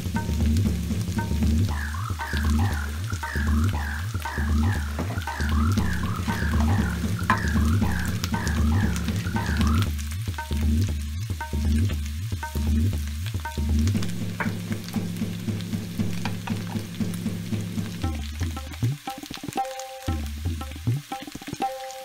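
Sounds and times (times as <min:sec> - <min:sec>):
background music: 0:00.0 - 0:22.0
potatoes sizzling in oil: 0:00.0 - 0:22.0.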